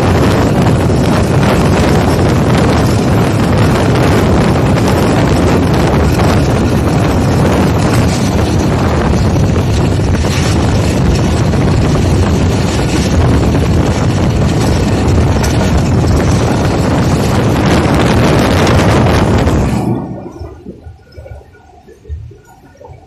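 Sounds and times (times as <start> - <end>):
train rumbling: 0.0 - 23.0
wind on microphone: 0.0 - 23.0.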